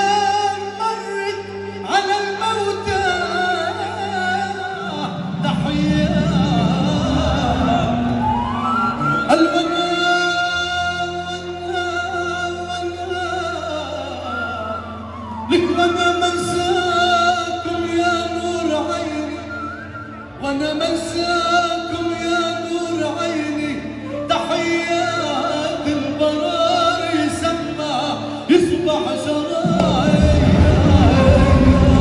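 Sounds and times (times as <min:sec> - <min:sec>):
band playing: 0:00.0 - 0:32.0
man singing with vibrato: 0:00.0 - 0:32.0.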